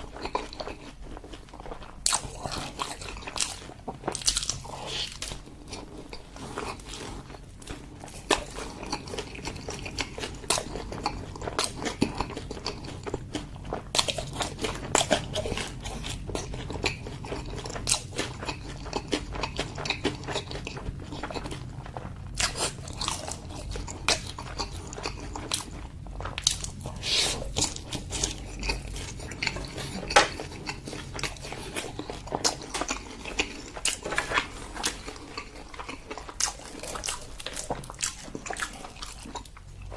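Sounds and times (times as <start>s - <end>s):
low steady hum: 0.0s - 39.9s
person chewing and biting food: 0.0s - 39.9s.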